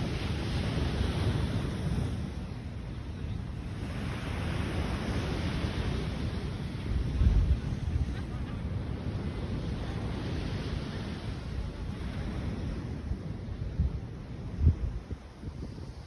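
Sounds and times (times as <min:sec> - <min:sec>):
sea waves washing ashore: 0:00.0 - 0:16.0
wind buffeting microphone: 0:00.0 - 0:16.0.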